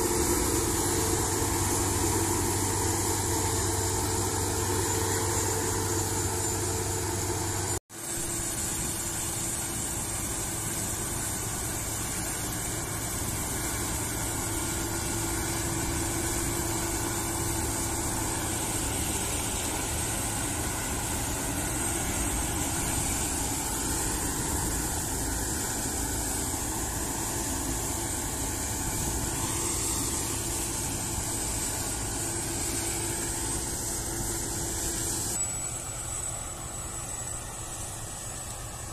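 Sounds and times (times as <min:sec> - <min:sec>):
combine harvester threshing drone: 0:00.0 - 0:38.9.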